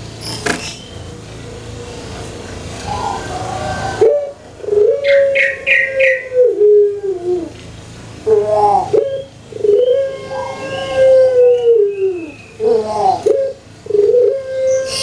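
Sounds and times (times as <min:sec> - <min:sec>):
dove cooing: 0:02.7 - 0:15.0.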